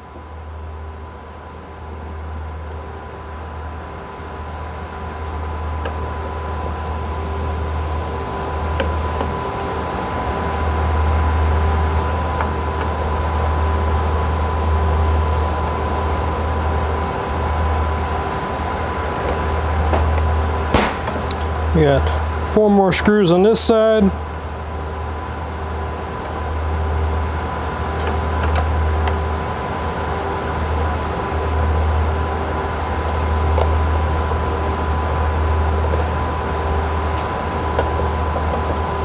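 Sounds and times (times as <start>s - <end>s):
cooling fans rumbling and whining: 0.0s - 39.0s.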